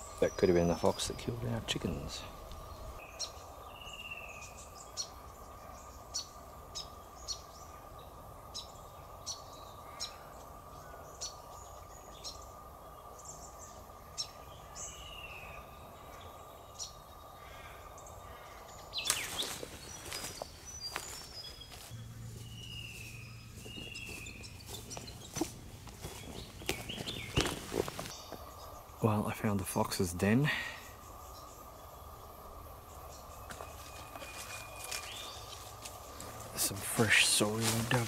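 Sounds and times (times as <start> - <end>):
bird chirps: 0.0 - 38.0
faint high hum: 0.0 - 38.0
rustle: 0.0 - 38.0.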